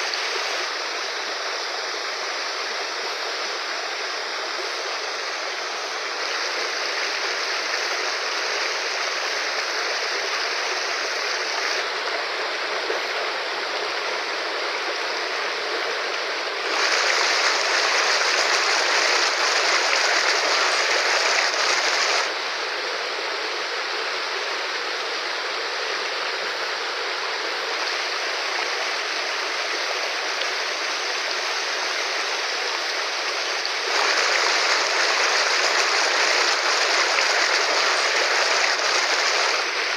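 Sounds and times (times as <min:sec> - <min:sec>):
river rushing: 0:00.0 - 0:22.8, 0:26.6 - 0:39.9.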